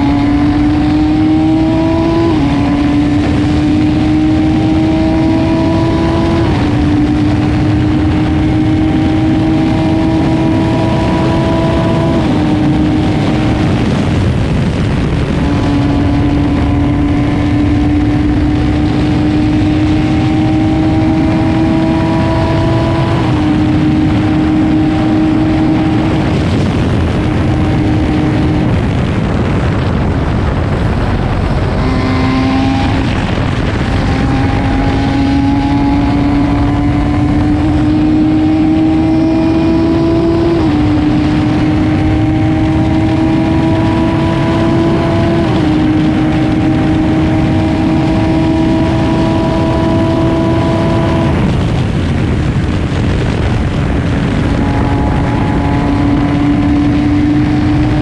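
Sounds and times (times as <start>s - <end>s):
race car engine at speed: 0.0s - 58.0s
road noise: 0.0s - 58.0s
wind noise: 0.0s - 58.0s.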